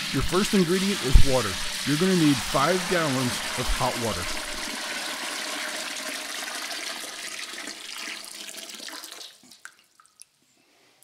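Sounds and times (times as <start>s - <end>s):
water pouring into metal pot: 0.0s - 10.2s.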